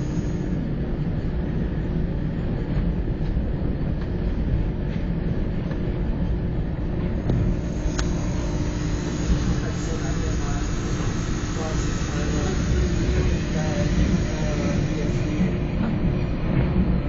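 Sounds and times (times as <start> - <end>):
faint steady hum: 0.0 - 17.0
monorail car rumbling: 0.0 - 17.0.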